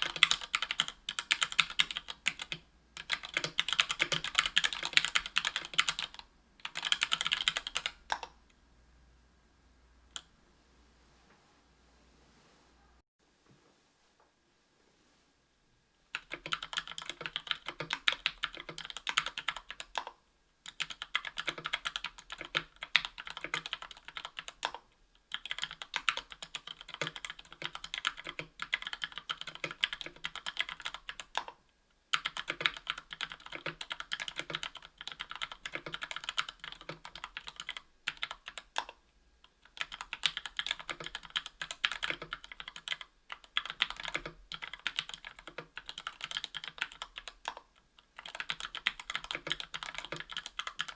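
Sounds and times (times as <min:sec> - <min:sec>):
mechanical keyboard typing: 0:00.0 - 0:08.4, 0:16.1 - 0:39.0, 0:39.6 - 0:50.9.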